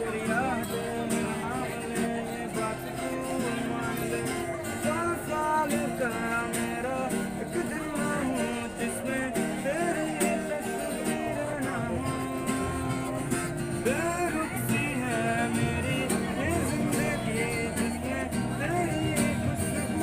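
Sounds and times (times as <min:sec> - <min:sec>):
acoustic guitar strumming: 0:00.0 - 0:20.0
person singing: 0:00.0 - 0:20.0.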